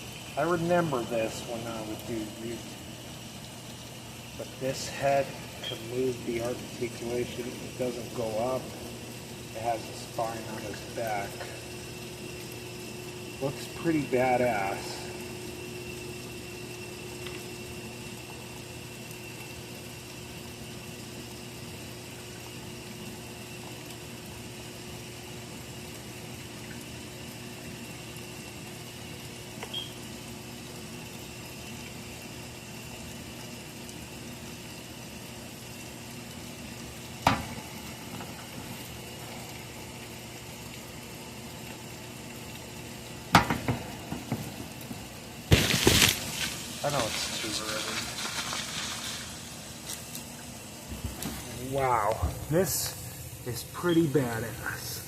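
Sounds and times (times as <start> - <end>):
background hum and hiss: 0.0 - 55.0.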